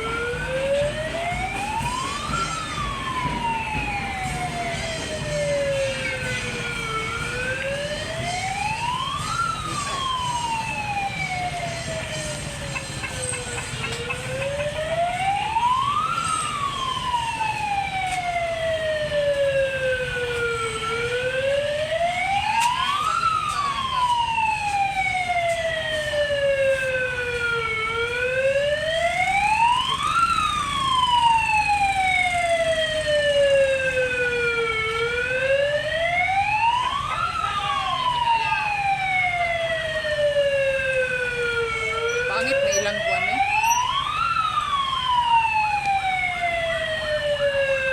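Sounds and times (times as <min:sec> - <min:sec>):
vehicle siren wailing: 0:00.0 - 0:47.9.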